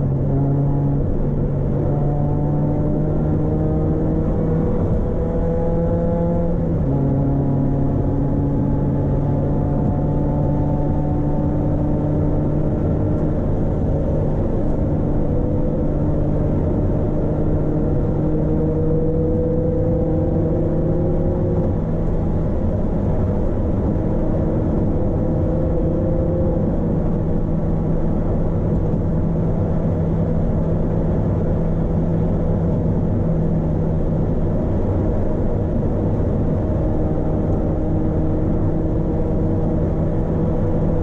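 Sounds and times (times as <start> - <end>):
car engine humming: 0.0 - 41.0
road noise: 0.0 - 41.0.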